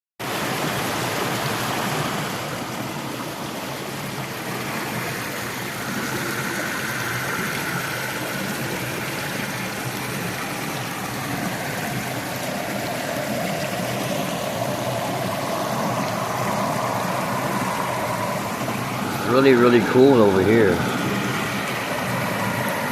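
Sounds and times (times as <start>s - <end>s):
running water rushing: 0.2s - 22.9s.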